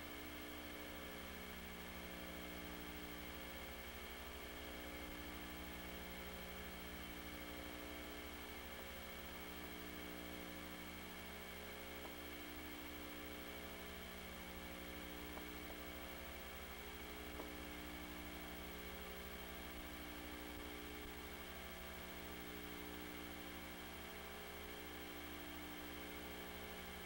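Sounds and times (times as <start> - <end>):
electrical hum with hiss: 0.0 - 27.0.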